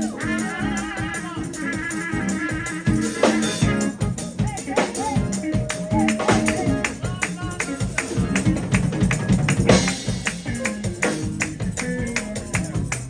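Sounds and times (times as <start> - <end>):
bass line: 0.0 - 13.0
fast drumming and percussion: 0.0 - 13.0.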